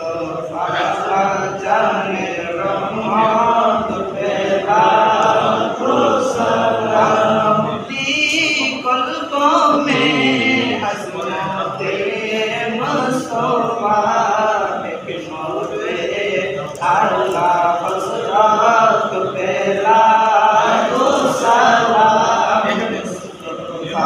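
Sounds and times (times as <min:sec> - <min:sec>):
men singing a devotional chant: 0:00.0 - 0:24.0.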